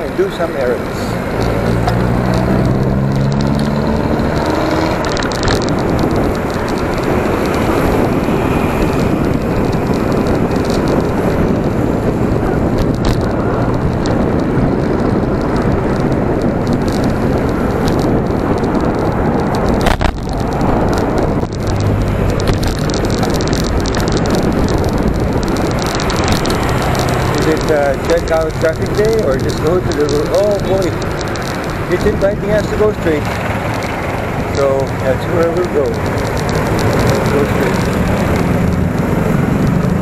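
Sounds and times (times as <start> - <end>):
tyre and traffic noise: 0.0 - 40.0
wind rushing over microphone: 0.0 - 40.0.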